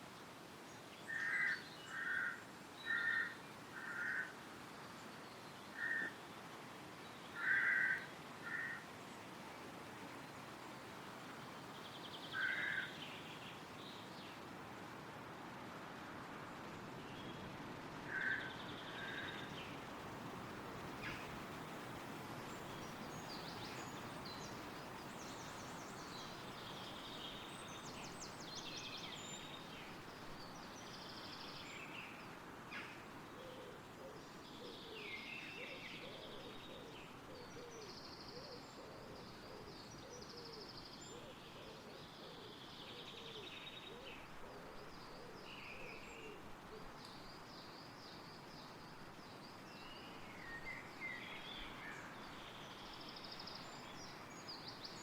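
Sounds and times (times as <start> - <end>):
wind rustling through trees: 0.0 - 55.0
songbirds singing: 0.7 - 15.0, 16.6 - 55.0.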